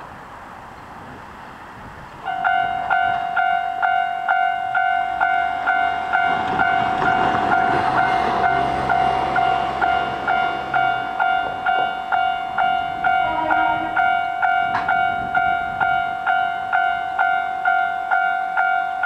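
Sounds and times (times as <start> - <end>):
electric train passing: 0.0 - 19.0
level-crossing alarm bell ringing: 2.3 - 19.0.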